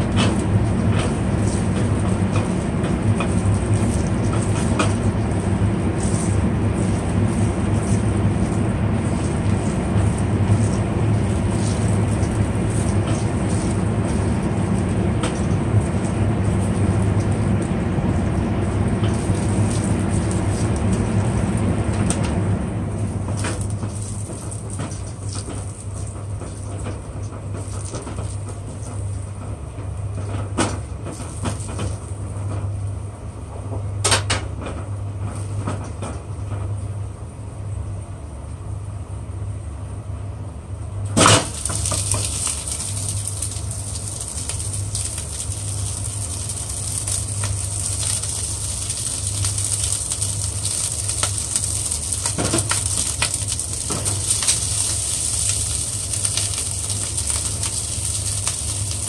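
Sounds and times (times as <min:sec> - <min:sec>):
garlic frying in oil: 0:00.0 - 0:36.8, 0:41.0 - 0:59.0.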